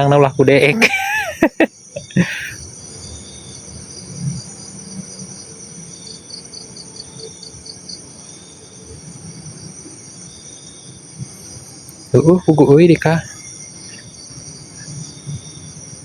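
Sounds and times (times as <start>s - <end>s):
insects trilling: 0.0s - 16.0s
pulsed insect chirps: 0.0s - 16.0s.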